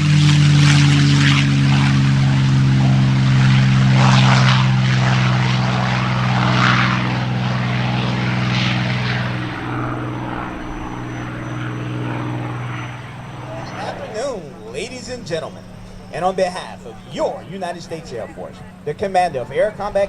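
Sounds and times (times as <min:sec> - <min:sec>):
aircraft engine humming: 0:00.0 - 0:20.0.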